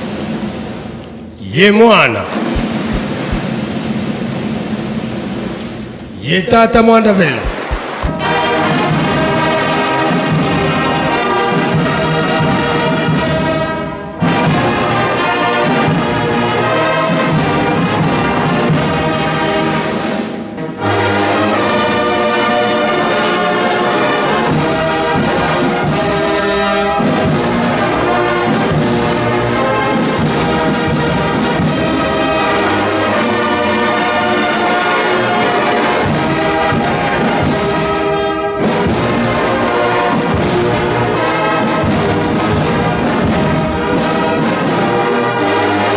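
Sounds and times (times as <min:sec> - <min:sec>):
brass band playing a hymn: 0:00.0 - 0:05.5, 0:06.1 - 0:45.9.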